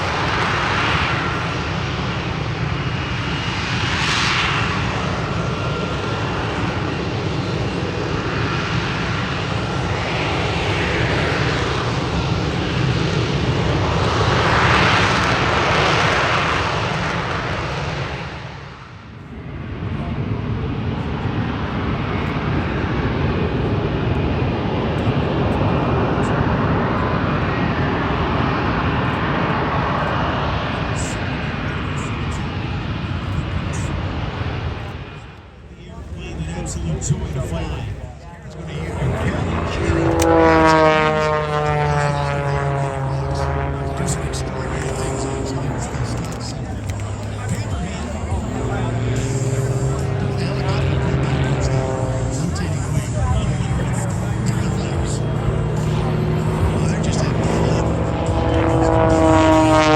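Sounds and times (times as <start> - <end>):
airplane engine flying past: 0.0 - 59.9.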